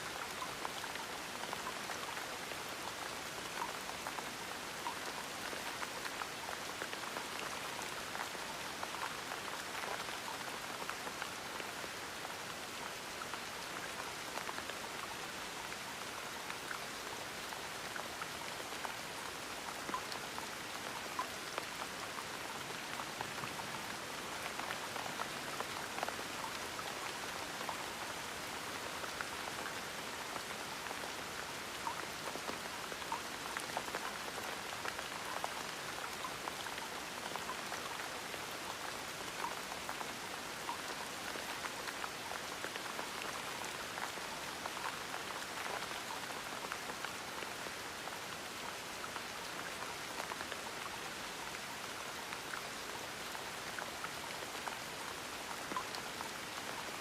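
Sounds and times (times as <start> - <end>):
gentle rain: 0.0 - 57.0
raindrops ticking on a surface: 0.0 - 57.0.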